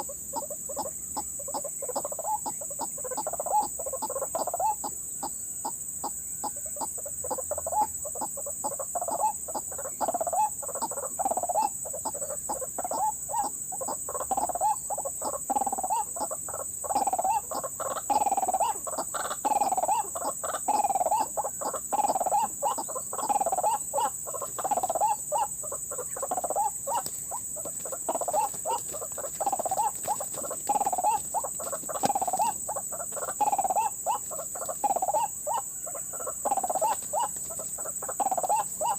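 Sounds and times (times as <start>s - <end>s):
high insect drone: 0.0s - 38.9s
waterhen clucking call: 0.0s - 38.9s.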